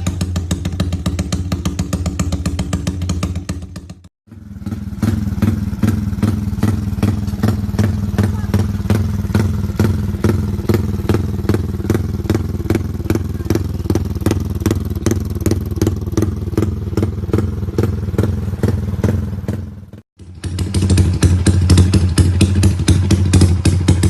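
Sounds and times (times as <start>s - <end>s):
another motorcycle engine: 0.0s - 24.0s
motorcycle engine idling: 0.0s - 24.0s.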